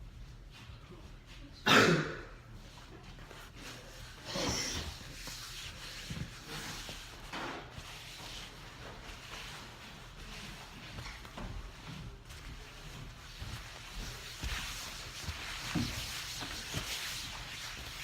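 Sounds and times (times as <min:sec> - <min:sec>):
rustling scrape of tidying: 0:02.7 - 0:18.0.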